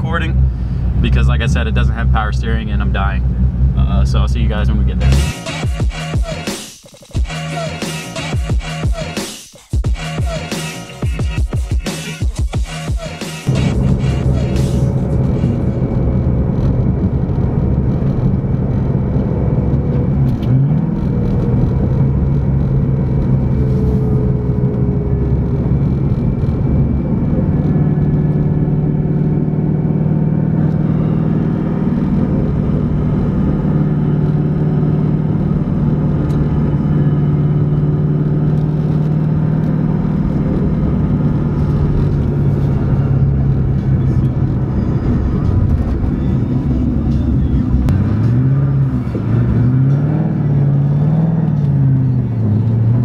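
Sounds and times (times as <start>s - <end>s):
car engine droning in cabin: 0.0s - 6.3s, 10.1s - 53.0s.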